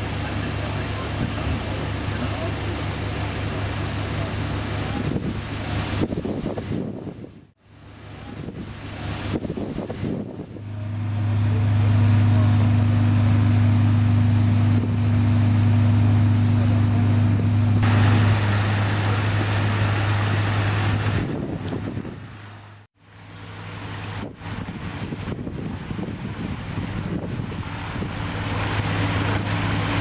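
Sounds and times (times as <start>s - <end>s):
engine humming: 0.0s - 6.8s, 7.6s - 30.0s.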